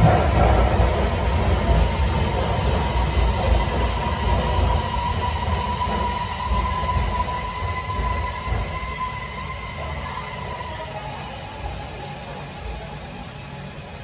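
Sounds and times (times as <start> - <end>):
train rumble: 0.0 - 14.0
train whine: 0.0 - 14.0.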